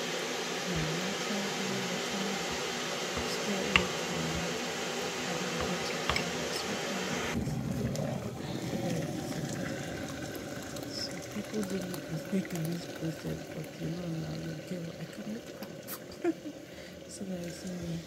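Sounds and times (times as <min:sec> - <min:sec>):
fan-like hum: 0:00.0 - 0:18.0.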